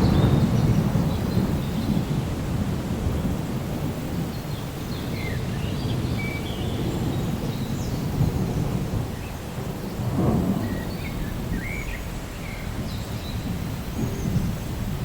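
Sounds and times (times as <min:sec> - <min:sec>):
rain hissing: 0:00.0 - 0:15.0
thunder rumbling: 0:00.0 - 0:15.0.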